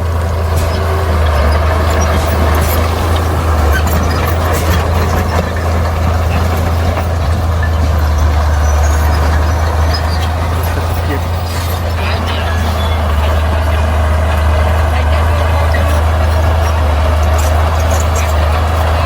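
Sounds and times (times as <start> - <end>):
bulldozer diesel engine drone: 0.0 - 19.0.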